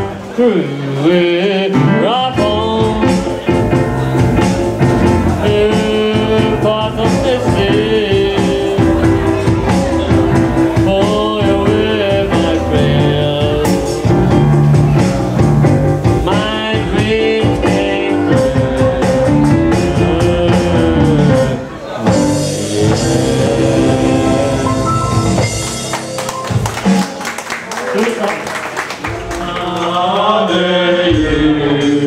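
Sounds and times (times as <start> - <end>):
person singing: 0.0 - 26.2, 29.1 - 32.0
live blues-rock band: 1.0 - 27.4.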